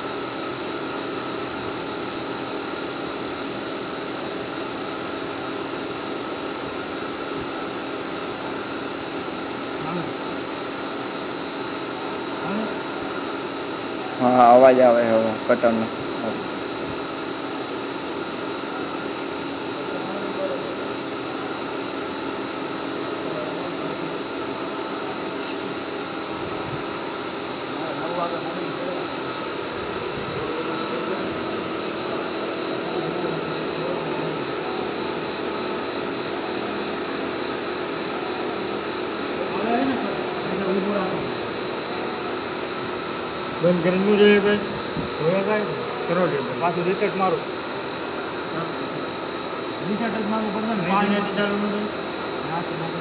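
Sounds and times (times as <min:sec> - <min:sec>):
milling spindle high-pitched whine: 0:00.0 - 0:53.0.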